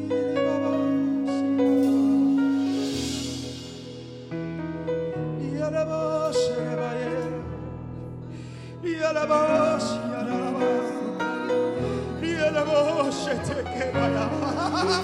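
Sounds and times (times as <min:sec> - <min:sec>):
sustained keyboard chords: 0:00.0 - 0:15.0.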